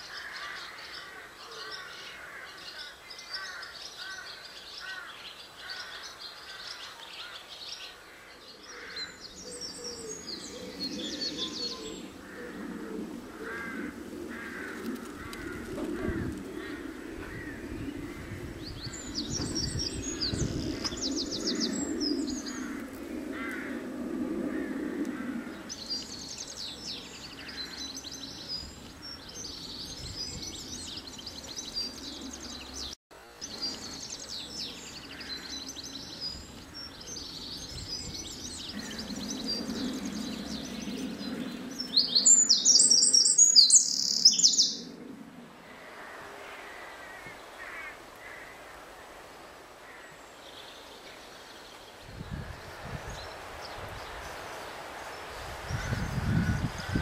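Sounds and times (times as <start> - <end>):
songbirds trilling: 0.0 - 57.0.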